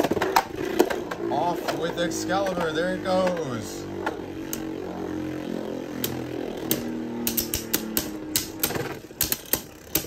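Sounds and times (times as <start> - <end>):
spinning tops whirring: 0.0 - 10.0.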